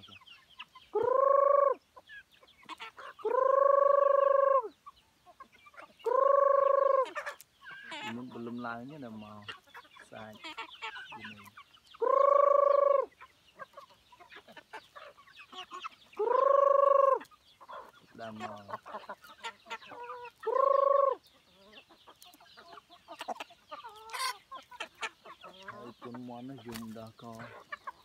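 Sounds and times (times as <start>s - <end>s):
chickens clucking softly: 0.0s - 28.0s.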